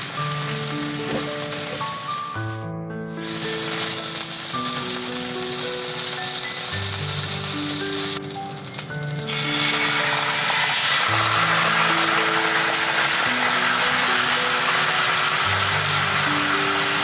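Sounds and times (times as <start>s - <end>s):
meat patty sizzling in a skillet: 0.0s - 2.4s, 3.2s - 17.0s
sauce poured into hot pan: 3.2s - 17.0s.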